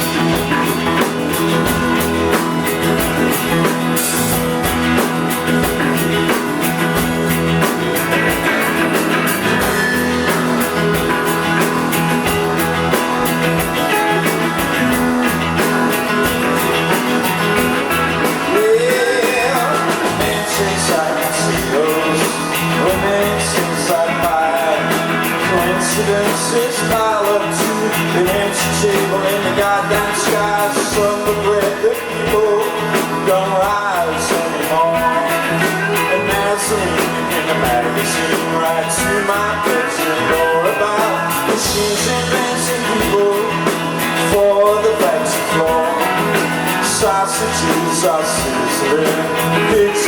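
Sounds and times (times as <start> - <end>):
live rock band playing: 0.0 - 50.0
person singing: 0.0 - 50.0.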